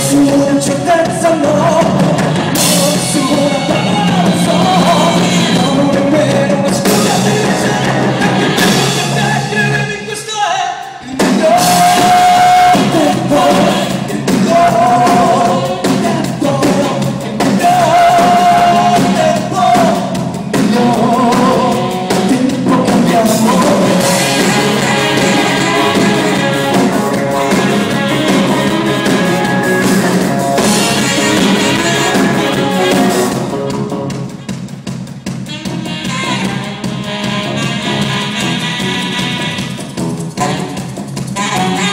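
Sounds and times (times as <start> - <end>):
electric guitar: 0.0 - 10.0, 11.0 - 34.8, 35.4 - 41.9
person singing: 0.0 - 33.8
drums: 0.0 - 41.9.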